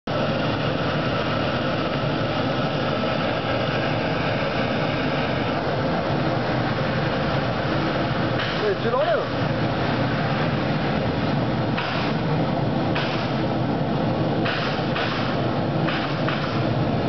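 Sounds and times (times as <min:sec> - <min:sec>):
oil burner flame rushing: 0:00.1 - 0:17.0.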